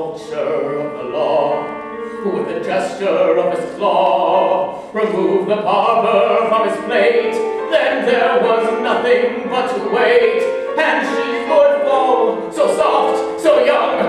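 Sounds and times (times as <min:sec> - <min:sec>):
instrumental accompaniment: 0:00.0 - 0:14.0
musical theatre singing: 0:00.0 - 0:14.0.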